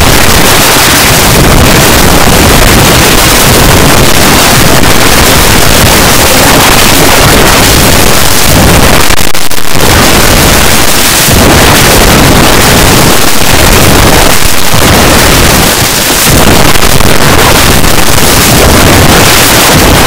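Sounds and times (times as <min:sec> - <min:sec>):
harsh clipped distorted song: 0:00.0 - 0:20.0.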